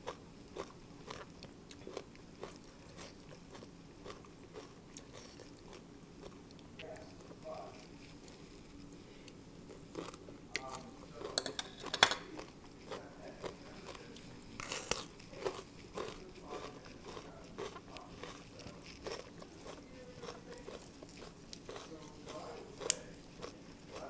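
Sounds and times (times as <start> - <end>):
crunchy chewing of raw vegetables: 0.0 - 24.0.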